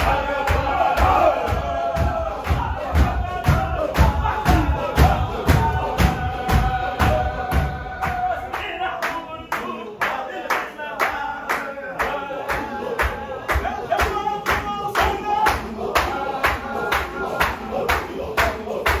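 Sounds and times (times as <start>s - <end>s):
hand claps: 0.0s - 19.0s
men chanting together: 0.0s - 19.0s.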